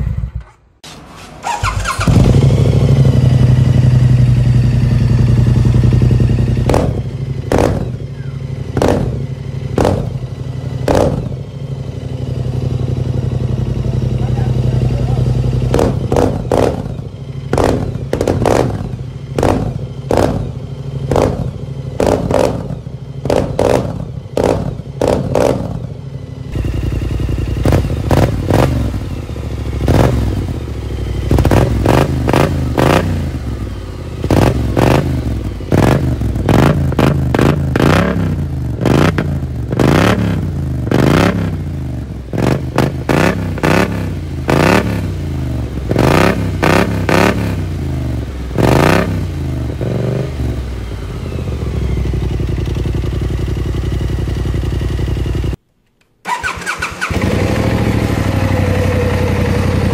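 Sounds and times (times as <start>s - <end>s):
scooter engine revving: 0.0s - 55.6s, 56.2s - 59.9s.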